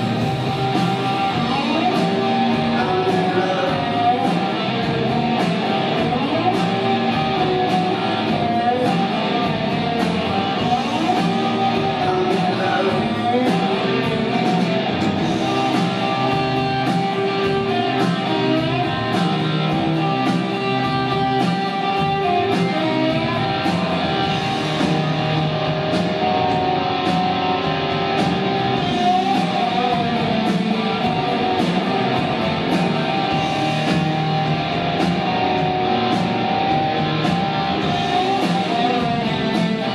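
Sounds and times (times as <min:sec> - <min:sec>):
electric guitar: 0:00.0 - 0:39.9
steady drum beat: 0:00.0 - 0:39.9.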